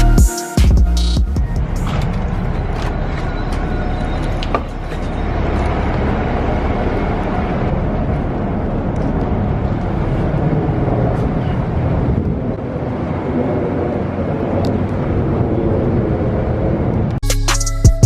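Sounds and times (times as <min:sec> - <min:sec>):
vehicle rumble and road noise: 0:00.8 - 0:17.2.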